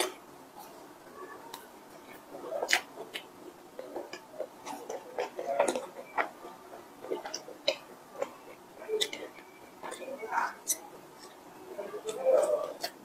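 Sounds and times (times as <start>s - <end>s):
person chewing with wet clicks: 1.5s - 13.0s.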